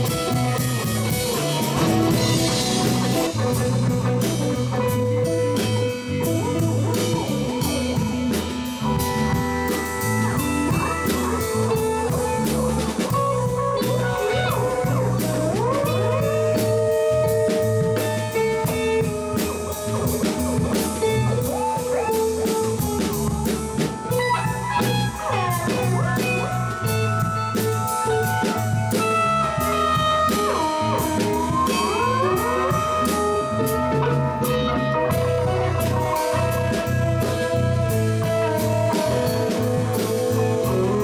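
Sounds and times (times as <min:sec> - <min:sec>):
live blues-rock band: 0:00.0 - 0:41.0
sliding guitar notes: 0:00.0 - 0:41.0.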